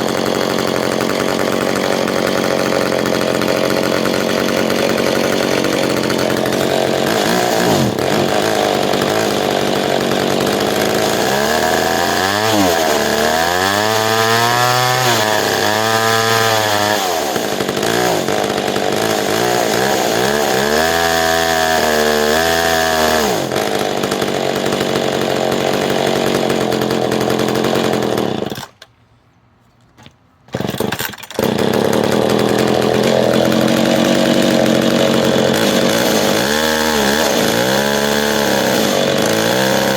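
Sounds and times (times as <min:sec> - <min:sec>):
chainsaw engine revving: 0:00.0 - 0:28.8, 0:30.5 - 0:39.9.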